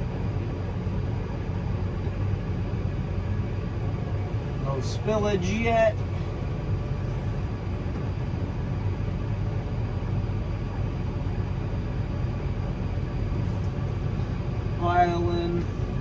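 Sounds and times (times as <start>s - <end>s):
tractor engine running under load: 0.0s - 16.0s.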